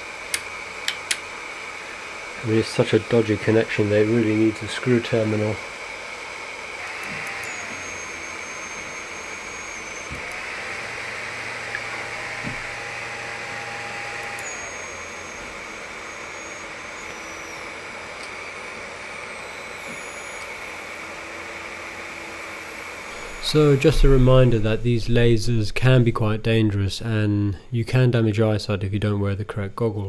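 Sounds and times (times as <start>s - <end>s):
cooling fans whirring: 0.0s - 30.0s.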